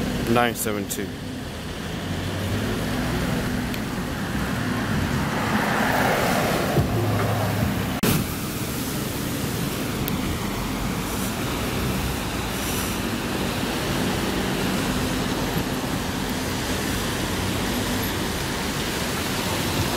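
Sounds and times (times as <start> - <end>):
tyres hissing on wet road: 0.0 - 19.9
vehicle engines running: 0.0 - 19.9.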